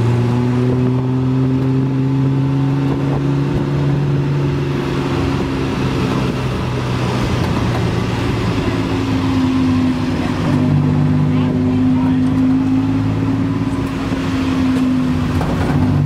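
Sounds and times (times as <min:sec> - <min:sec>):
road and traffic noise: 0:00.0 - 0:16.0
tuk-tuk engine running: 0:00.0 - 0:16.0.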